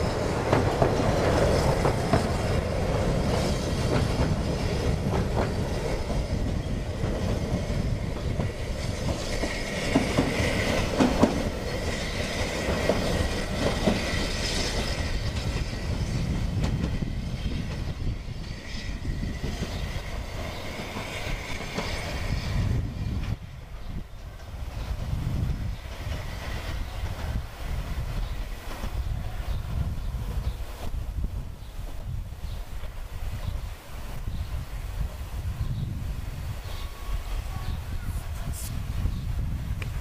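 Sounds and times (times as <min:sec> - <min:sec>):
train coaches rumbling: 0:00.0 - 0:40.0.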